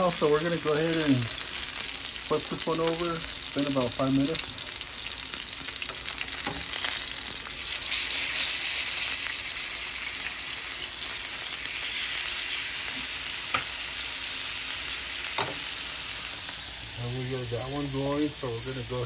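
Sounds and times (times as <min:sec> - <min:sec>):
chicken sizzling in a hot pan: 0:00.0 - 0:19.0.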